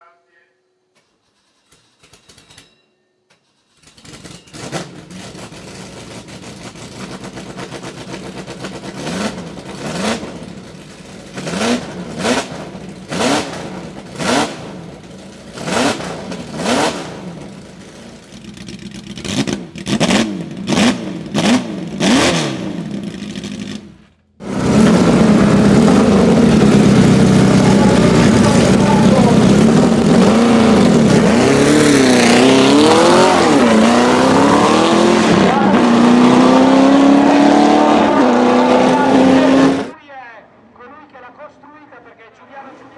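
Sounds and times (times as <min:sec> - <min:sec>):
racing engine revving: 0:04.1 - 0:18.0, 0:19.2 - 0:40.0.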